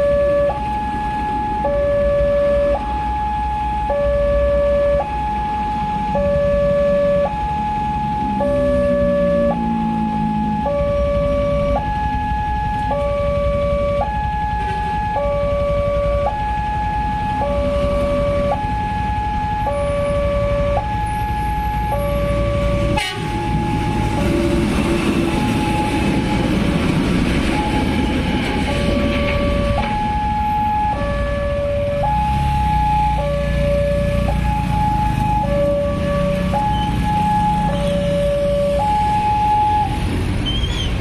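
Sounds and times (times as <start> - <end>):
two-tone crossing alarm: 0.0 - 26.8, 27.4 - 40.7
train rumbling: 5.7 - 41.0.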